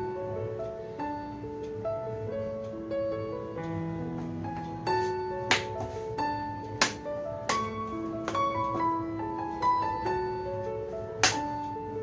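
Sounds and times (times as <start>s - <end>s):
piano music with sustained notes: 0.0s - 12.0s.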